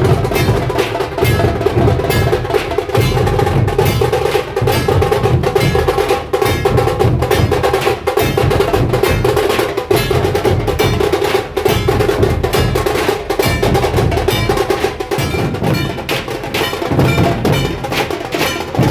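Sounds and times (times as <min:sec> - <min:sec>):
deep drum beats: 0:00.0 - 0:18.9
sharp rapid drum strokes: 0:00.0 - 0:18.9.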